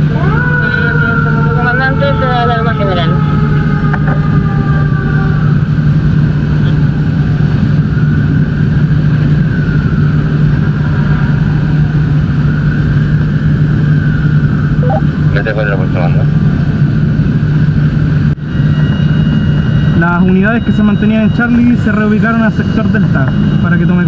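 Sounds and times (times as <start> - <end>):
siren wailing: 0.0 - 15.3, 18.4 - 24.0
fire engine motor droning: 0.0 - 24.0.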